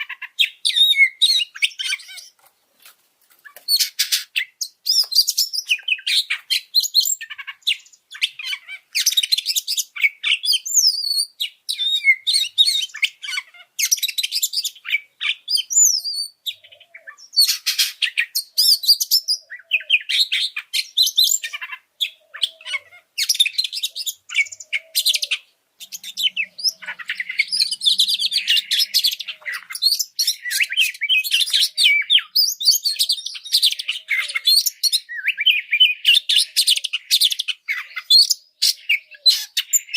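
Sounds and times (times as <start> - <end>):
bird chattering and whistling: 0.0 - 2.4, 3.5 - 39.9.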